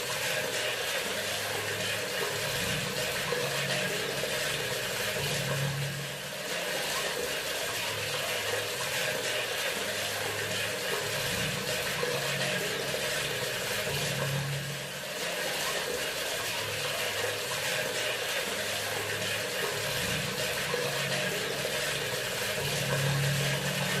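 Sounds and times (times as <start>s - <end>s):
faucet water pouring into sink: 0.0s - 24.0s.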